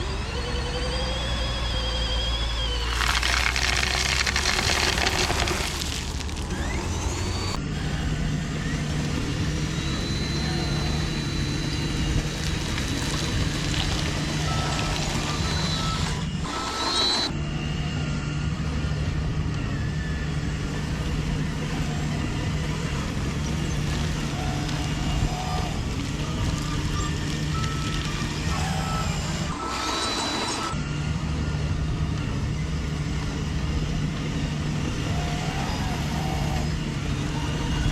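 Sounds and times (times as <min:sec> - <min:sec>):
motor hum: 0:00.0 - 0:37.9.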